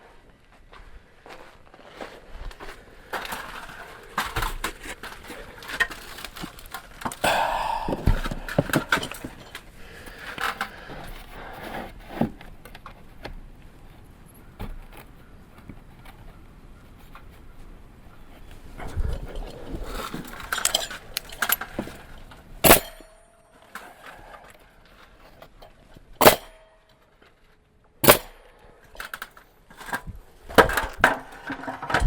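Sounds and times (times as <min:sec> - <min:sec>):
knocks and rattles of wood siding: 0:01.8 - 0:32.0.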